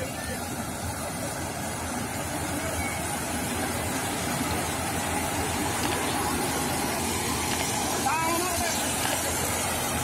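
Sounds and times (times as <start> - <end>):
combine harvester running: 0.0 - 10.0.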